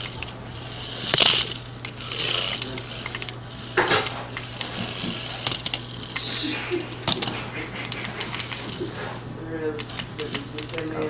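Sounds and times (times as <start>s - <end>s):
steady low hum: 0.0s - 11.0s
toy car motor whirring: 0.0s - 11.0s.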